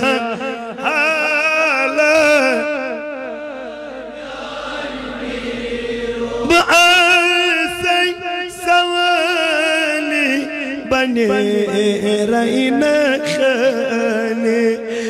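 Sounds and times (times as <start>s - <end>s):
person singing a chant: 0.0s - 15.0s.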